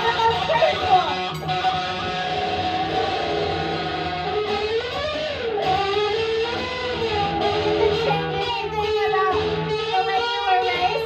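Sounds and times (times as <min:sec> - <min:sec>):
droning instrumental notes: 0:00.0 - 0:11.0.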